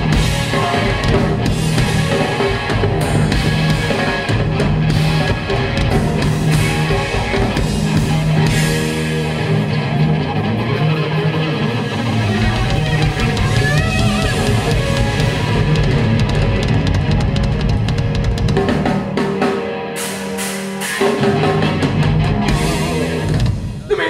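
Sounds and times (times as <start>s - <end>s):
drum kit: 0.0s - 10.9s, 11.5s - 24.0s
bass guitar: 0.0s - 24.0s
electric guitar: 0.0s - 24.0s.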